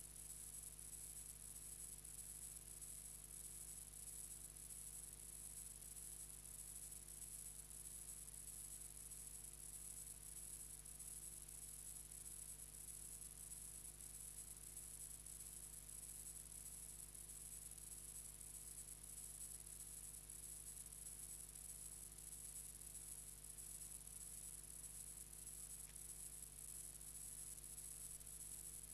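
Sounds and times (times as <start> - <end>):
faint electrical hum and hiss: 0.0 - 28.9.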